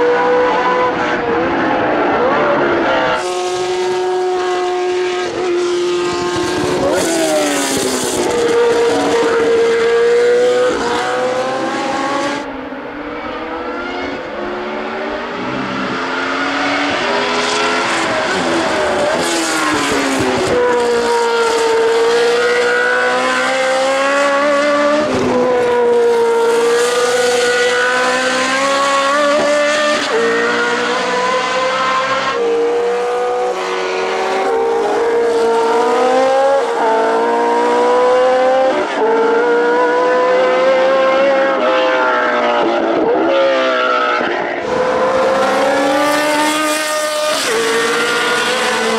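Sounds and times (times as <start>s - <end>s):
racing car engine upshifting: 0.0s - 48.9s.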